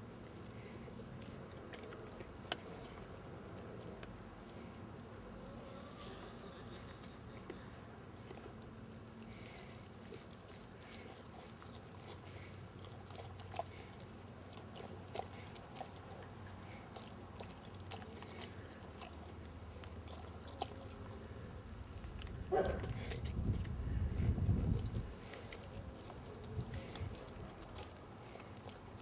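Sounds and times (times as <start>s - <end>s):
dog chewing raw meat: 0.0s - 29.0s.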